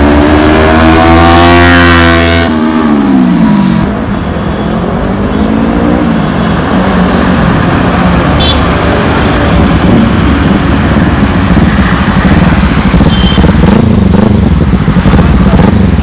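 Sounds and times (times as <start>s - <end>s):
motorcycle engine revving: 0.0s - 4.0s, 5.5s - 16.0s.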